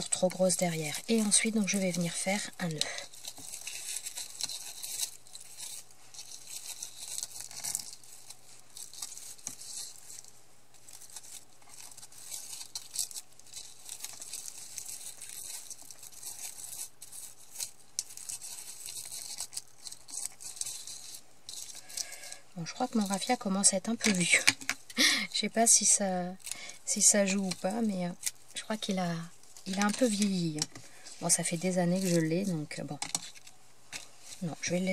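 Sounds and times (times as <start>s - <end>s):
ribbon rustling and crinkling: 0.0s - 34.9s.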